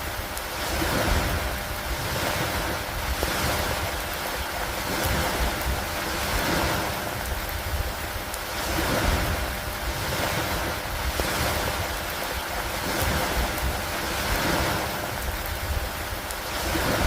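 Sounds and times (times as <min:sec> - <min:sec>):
gusty wind: 0:00.0 - 0:17.0
rain hissing: 0:00.0 - 0:17.0
water lapping at a dock: 0:00.0 - 0:17.0.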